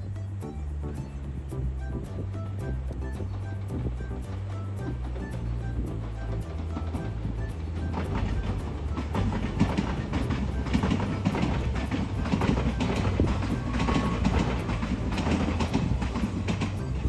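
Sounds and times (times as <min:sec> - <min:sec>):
train wheels clicking over rail joints: 0:02.2 - 0:17.0.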